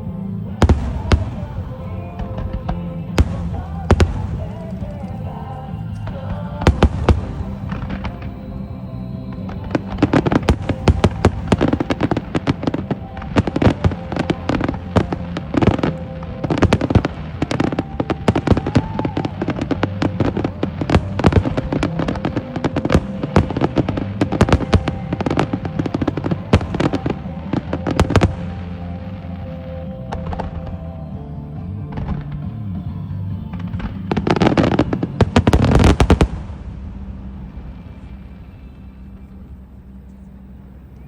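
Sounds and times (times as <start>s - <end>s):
fireworks bangs and crackles: 0.1s - 40.5s.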